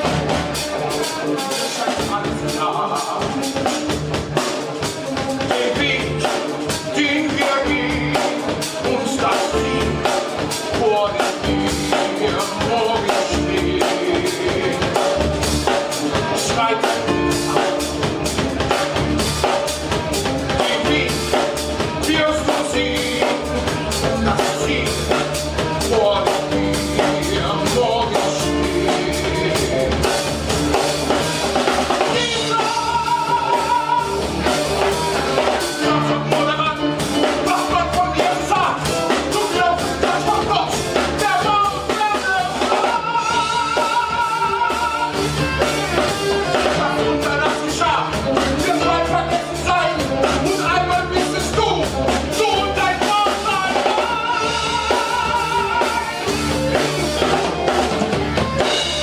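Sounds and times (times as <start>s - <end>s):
man singing with vibrato: 0.0s - 57.8s
live band with drums and guitar: 0.0s - 59.0s.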